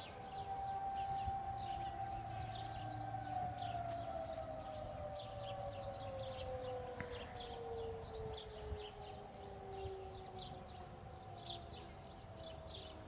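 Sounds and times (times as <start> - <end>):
birds chirping: 0.0 - 13.0
distant warning sirens: 0.0 - 13.0.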